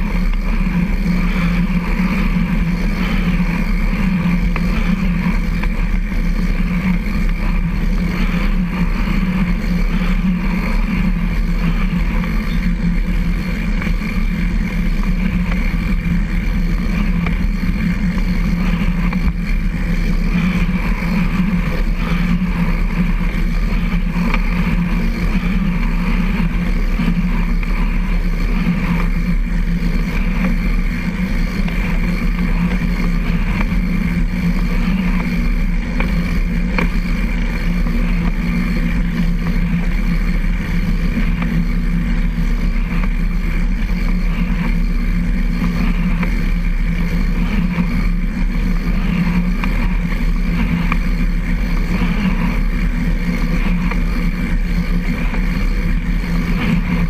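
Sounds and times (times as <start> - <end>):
chain drive high whine: 0.0 - 57.0
trike rolling low hum: 0.0 - 57.0.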